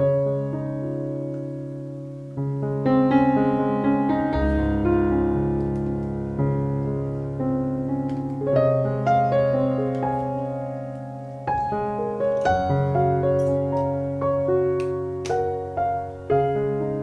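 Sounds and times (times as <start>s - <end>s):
slow solo piano piece: 0.0s - 17.0s.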